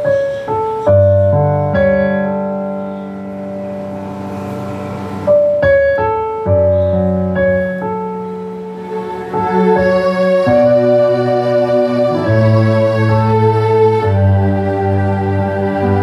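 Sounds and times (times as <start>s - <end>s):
keyboard melody over chords: 0.0s - 16.0s.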